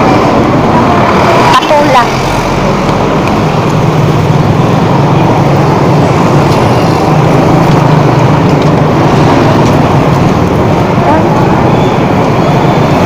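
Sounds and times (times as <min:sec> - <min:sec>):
motor vehicle and road noise: 0:00.0 - 0:13.0.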